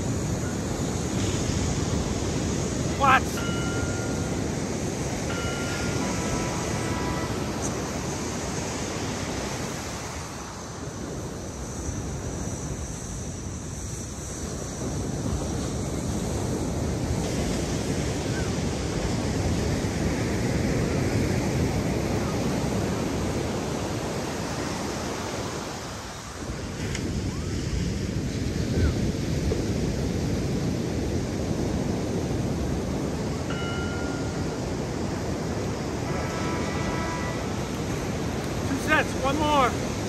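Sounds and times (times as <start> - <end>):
ocean surf washing on beach: 0.0 - 40.0
wind blowing on microphone: 0.0 - 40.0.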